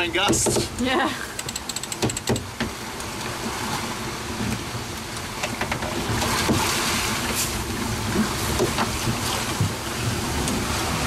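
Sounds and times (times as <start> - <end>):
gale-force wind: 0.0 - 11.0
rushing sea: 0.0 - 11.0.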